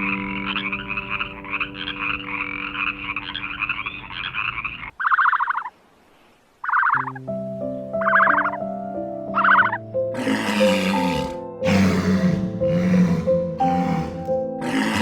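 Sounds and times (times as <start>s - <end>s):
frogs calling: 0.0s - 5.8s, 6.6s - 7.3s, 8.0s - 8.7s, 9.3s - 15.0s.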